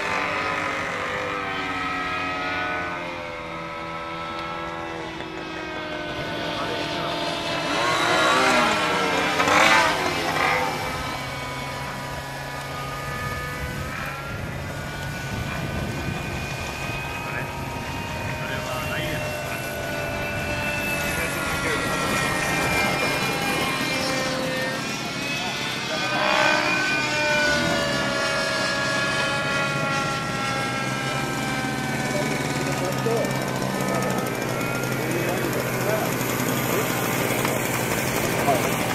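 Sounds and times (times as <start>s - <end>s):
model airplane engine at high revs: 0.0s - 38.9s.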